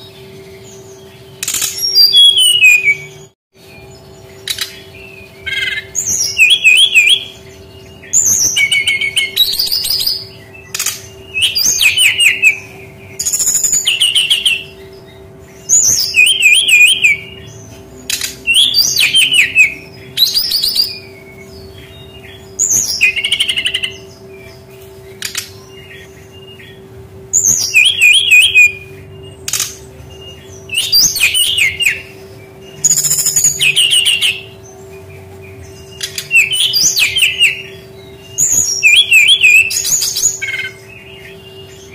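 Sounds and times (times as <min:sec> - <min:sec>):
bird singing warbles and trills: 0:00.0 - 0:41.9
faint steady hum: 0:00.0 - 0:41.9.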